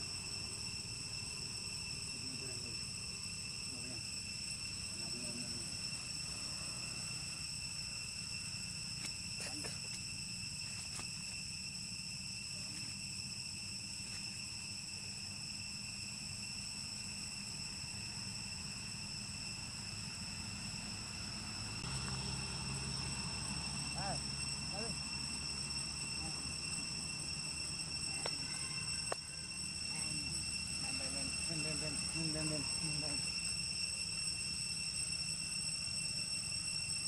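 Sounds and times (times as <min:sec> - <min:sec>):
insects singing high-pitched: 0:00.0 - 0:37.0.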